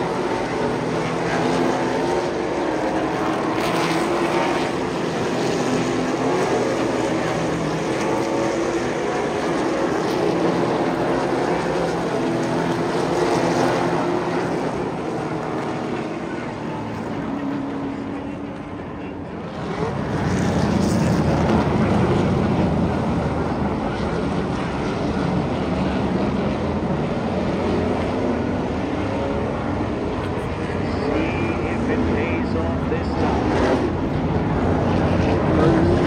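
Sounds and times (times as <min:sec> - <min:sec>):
racing car engines: 0:00.0 - 0:36.0.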